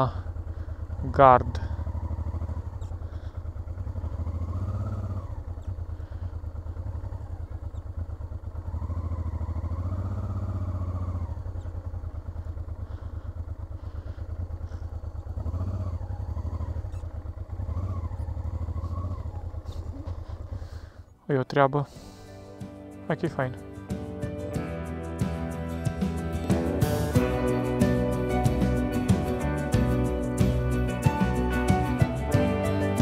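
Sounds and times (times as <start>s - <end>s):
motorcycle engine revving: 0.0s - 21.2s, 21.9s - 33.0s.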